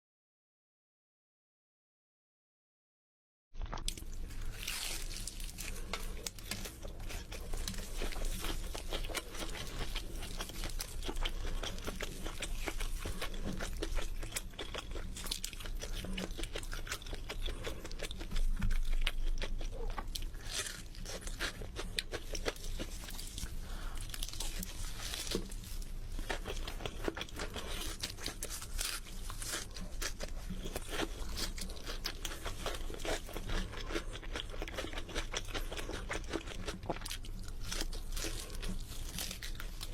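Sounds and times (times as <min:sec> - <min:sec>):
person chewing and crunching food: 0:03.6 - 0:39.9.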